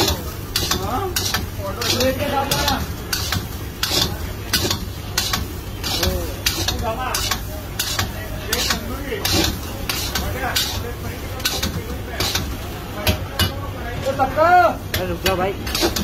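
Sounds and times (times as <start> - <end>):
metal spatula scraping wok: 0.0 - 12.6, 15.2 - 16.0.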